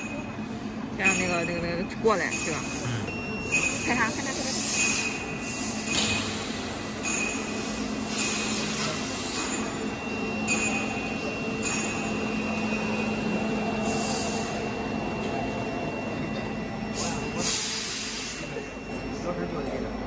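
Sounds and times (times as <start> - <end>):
low machine hum: 0.0 - 20.0
machine whine: 0.0 - 20.0.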